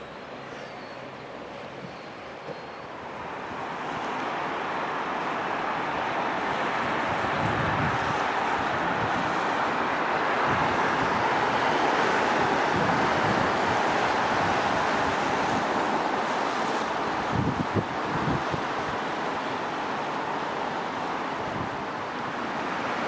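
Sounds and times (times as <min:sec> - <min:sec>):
train rumbling hiss: 0:00.0 - 0:23.0.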